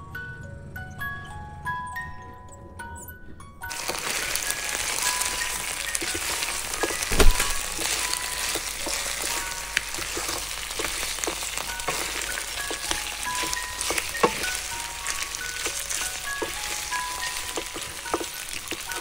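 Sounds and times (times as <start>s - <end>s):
meat sizzling in a pan: 3.7s - 19.0s
wooden spoon knocking pan: 3.7s - 19.0s.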